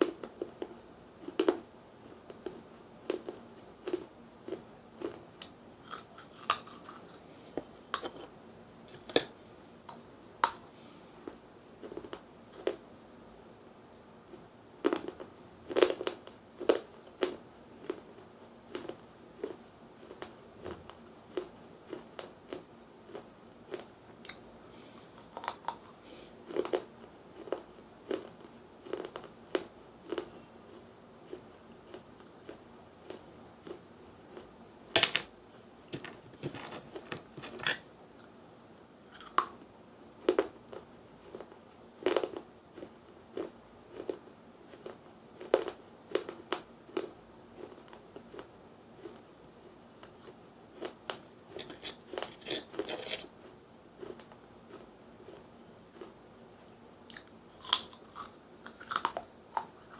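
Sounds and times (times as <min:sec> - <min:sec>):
person chewing crunchy clay: 0:00.0 - 0:12.8, 0:14.8 - 0:34.6, 0:35.9 - 0:38.4, 0:39.0 - 0:39.6, 0:40.2 - 0:49.2, 0:50.0 - 0:59.9.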